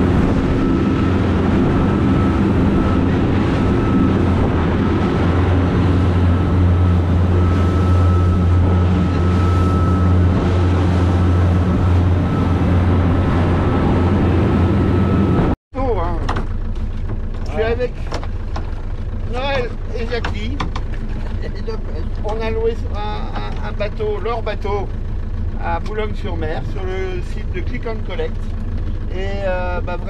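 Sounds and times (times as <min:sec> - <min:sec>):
water wash from wake: 0:00.0 - 0:25.0
motor boat engine drone: 0:00.0 - 0:30.0
wind: 0:00.0 - 0:30.0.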